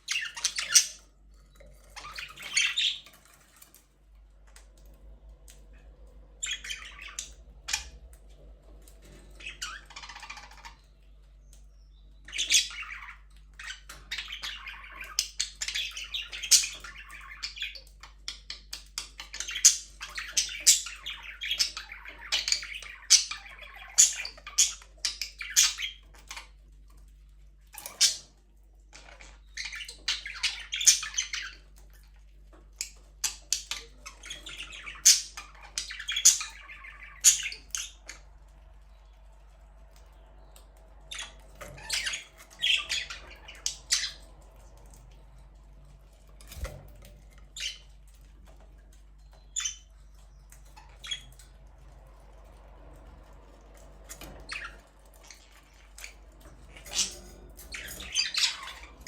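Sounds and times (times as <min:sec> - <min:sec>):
budgerigars chirping and squawking: 0:00.0 - 0:03.8, 0:05.7 - 0:27.1, 0:27.7 - 0:59.0.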